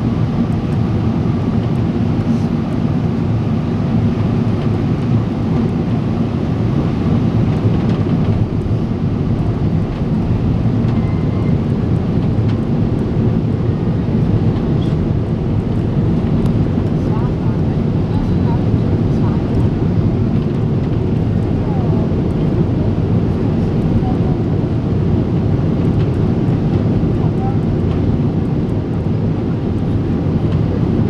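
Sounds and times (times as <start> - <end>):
airliner cabin engine noise: 0.0 - 31.0.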